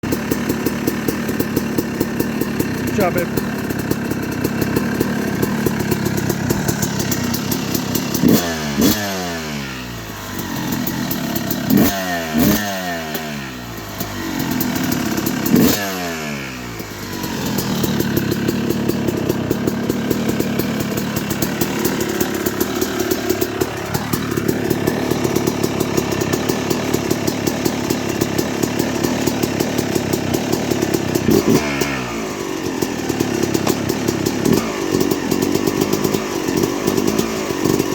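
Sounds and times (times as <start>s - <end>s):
two-stroke engine revving: 0.0s - 37.9s.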